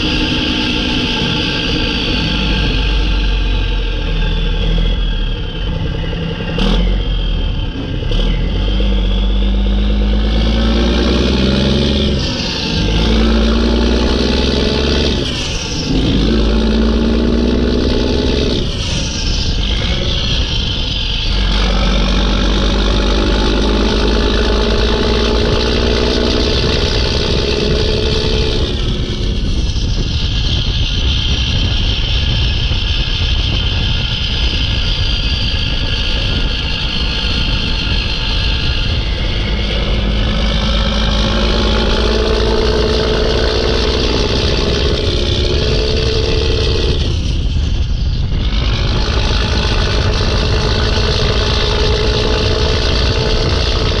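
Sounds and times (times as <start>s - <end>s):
truck diesel engine revving: 0.0s - 30.0s, 35.0s - 54.0s.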